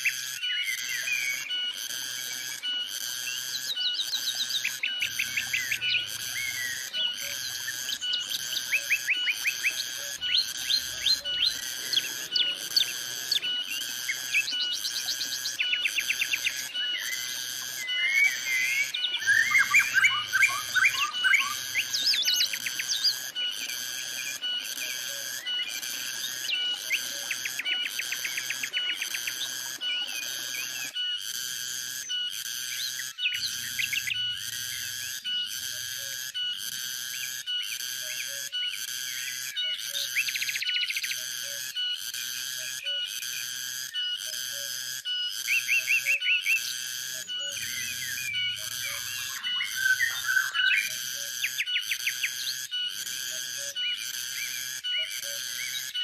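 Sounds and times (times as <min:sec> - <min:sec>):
birds trilling and chirping: 0:00.0 - 0:56.0
cicadas pulsing chorus: 0:00.0 - 0:56.0.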